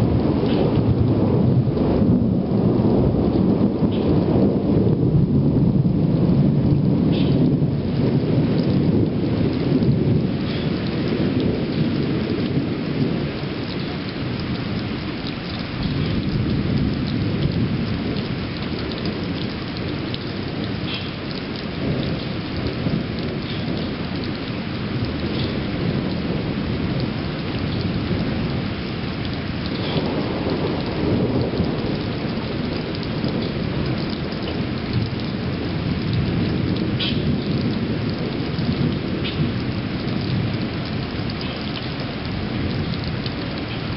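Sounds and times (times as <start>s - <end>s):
low thunder rumbling: 0.0s - 43.9s
raindrop ticks: 0.0s - 43.9s
steady rain: 0.0s - 43.9s.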